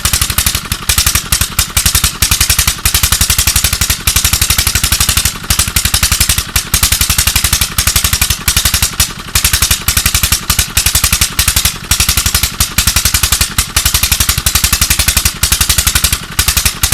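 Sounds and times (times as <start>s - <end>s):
engine with rapid exhaust beats: 0.0s - 16.9s.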